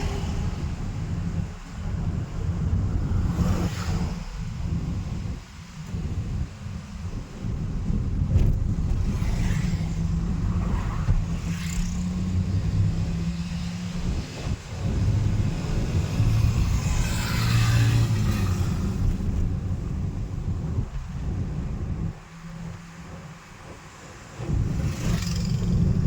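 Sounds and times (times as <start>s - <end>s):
car engine hum: 0.0s - 26.0s
road noise: 0.0s - 26.0s.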